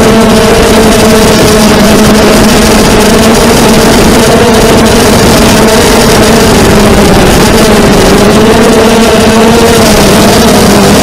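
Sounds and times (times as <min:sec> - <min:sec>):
quadcopter motors buzzing: 0:00.0 - 0:11.0.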